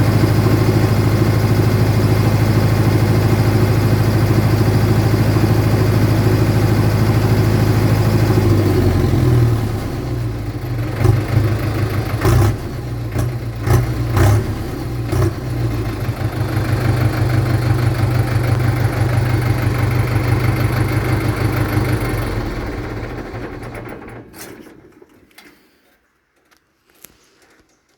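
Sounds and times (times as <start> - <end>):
tractor diesel engine running: 0.0 - 25.4.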